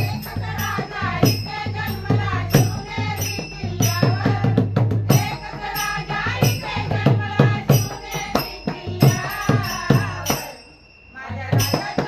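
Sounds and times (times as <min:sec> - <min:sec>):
drum beat: 0:00.0 - 0:10.5
jingling tambourine-like percussion: 0:00.0 - 0:12.0.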